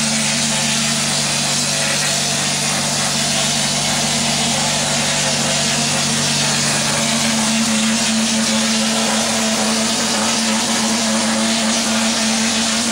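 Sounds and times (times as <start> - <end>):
machine motor humming: 0.0 - 12.9.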